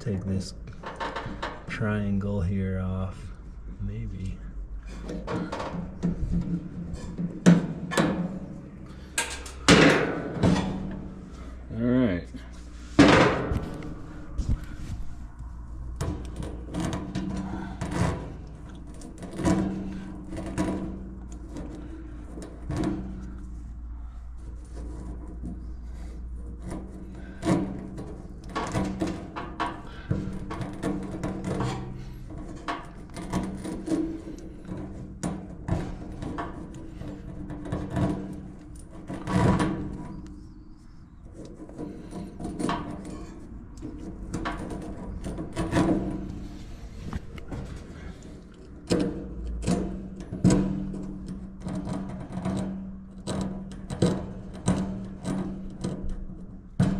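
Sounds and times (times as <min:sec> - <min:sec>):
appliance parts knocking and scraping: 0:00.0 - 0:01.8, 0:04.8 - 0:11.7, 0:12.4 - 0:56.9
steady low hum: 0:00.0 - 0:56.9.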